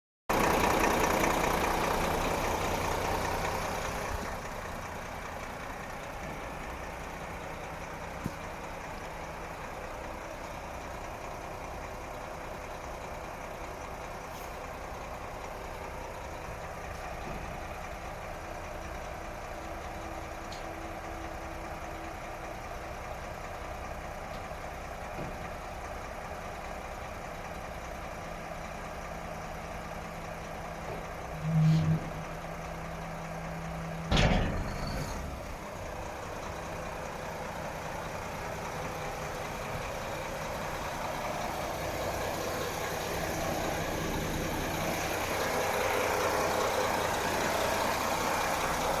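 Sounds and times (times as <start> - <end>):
truck diesel engine idling: 0.3 - 49.0.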